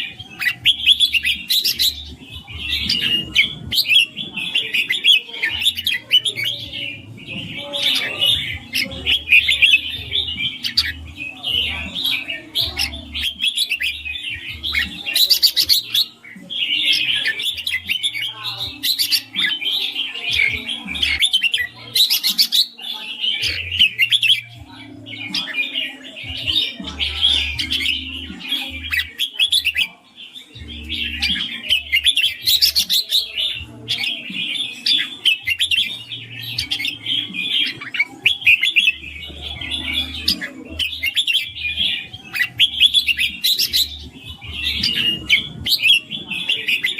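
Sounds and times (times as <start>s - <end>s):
bird chirping song: 0.0s - 46.9s.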